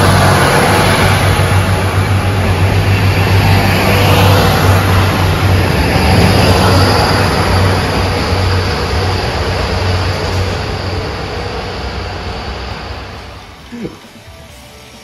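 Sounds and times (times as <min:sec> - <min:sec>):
diesel engines droning: 0:00.0 - 0:15.0
wheel and rail noise: 0:00.0 - 0:15.0.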